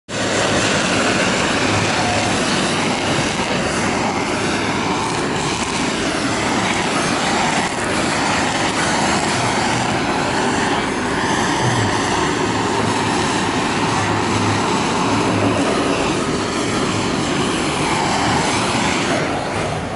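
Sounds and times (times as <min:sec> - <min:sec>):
blowtorch hissing: 0:00.1 - 0:19.9.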